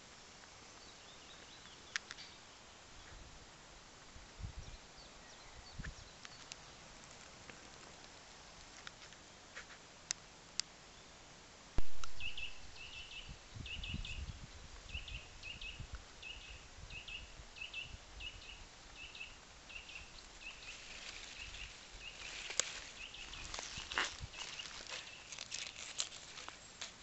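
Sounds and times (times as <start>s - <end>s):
leaves rustling: 0.0s - 10.1s, 11.8s - 27.0s.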